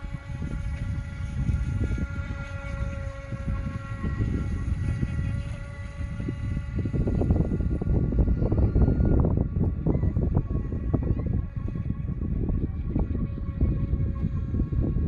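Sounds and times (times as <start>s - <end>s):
model boat electric motor whining: 0.0s - 15.0s
wind rumble on microphone: 0.0s - 15.0s.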